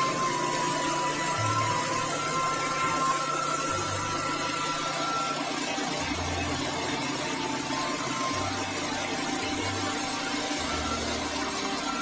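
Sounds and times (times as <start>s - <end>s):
rice mill running: 0.0s - 12.0s.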